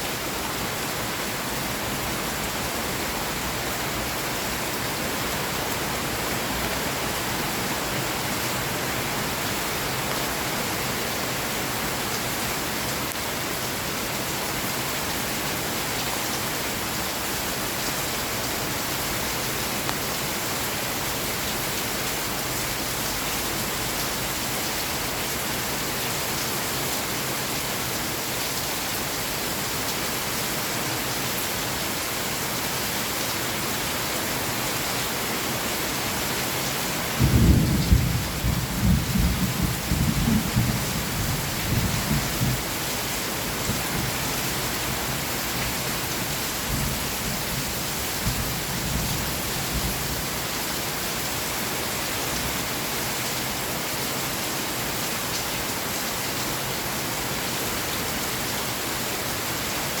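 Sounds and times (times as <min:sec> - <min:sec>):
steady rain: 0:00.0 - 1:00.0.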